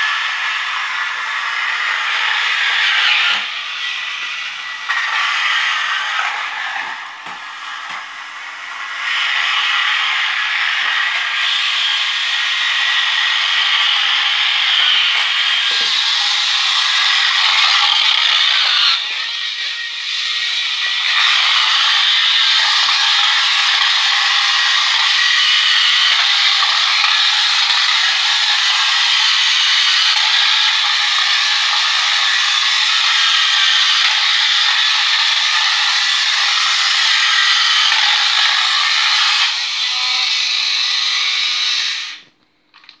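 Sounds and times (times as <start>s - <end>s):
toy car motor whirring: 0.0s - 43.0s.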